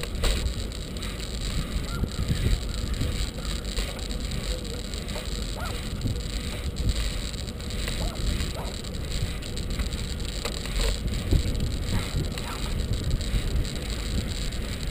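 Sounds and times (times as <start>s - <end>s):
bicycle rumble and rattle: 0.0s - 14.9s
wind buffeting microphone: 0.0s - 14.9s.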